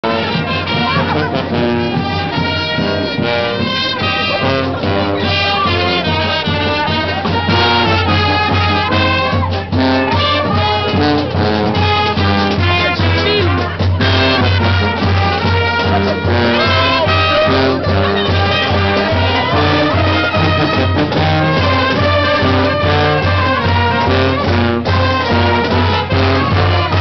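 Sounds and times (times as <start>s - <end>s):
brass band music: 0.0s - 27.0s
trombones: 0.0s - 27.0s
trumpets: 0.0s - 27.0s.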